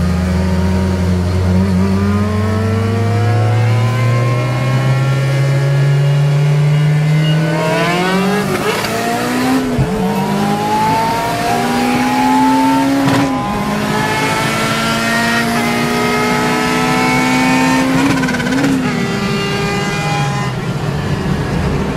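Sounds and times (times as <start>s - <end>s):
car engine accelerating hard: 0.0s - 21.9s.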